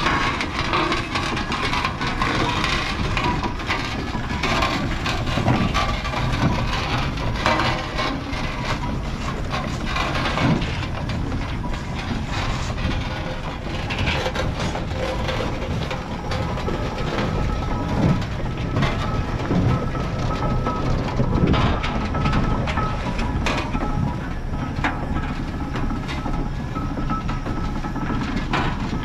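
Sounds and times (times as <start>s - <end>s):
irregular mechanical knocks: 0.0s - 29.0s
steam engine mechanical clatter: 0.0s - 29.0s.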